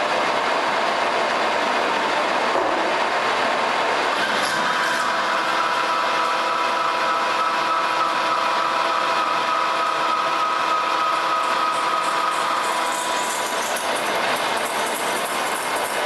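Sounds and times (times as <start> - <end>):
lathe running: 0.0 - 16.0.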